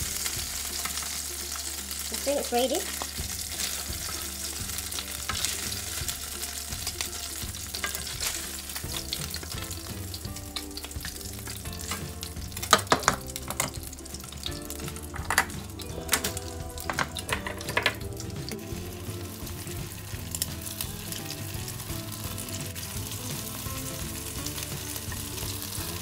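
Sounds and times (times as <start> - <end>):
shrimp sizzling in hot oil: 0.0 - 26.0
spatula scraping a wok: 2.9 - 26.0.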